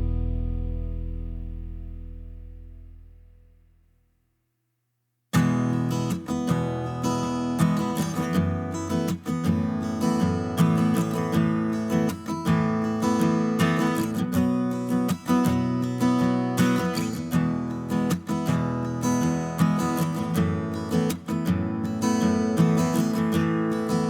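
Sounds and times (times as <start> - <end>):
strummed acoustic guitar music: 0.0 - 3.0, 5.4 - 24.0.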